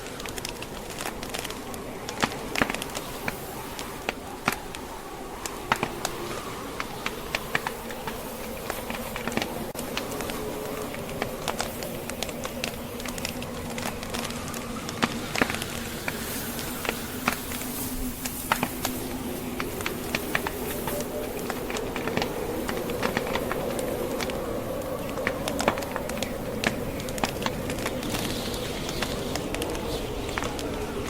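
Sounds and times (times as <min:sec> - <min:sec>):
blizzard wind rushing: 0:00.0 - 0:31.0
wood fire crackling: 0:00.0 - 0:31.0.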